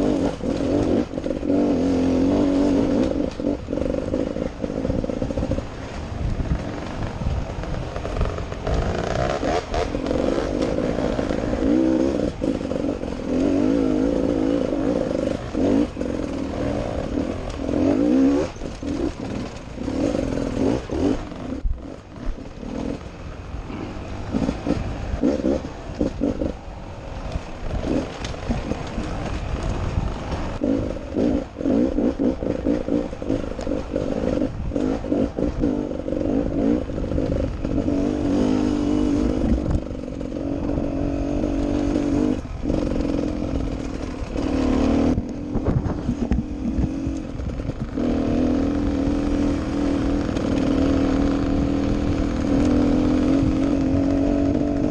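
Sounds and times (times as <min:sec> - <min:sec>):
bike rattling over rough ground: 0:00.0 - 0:54.9
dirt bike engine revving: 0:00.0 - 0:54.9.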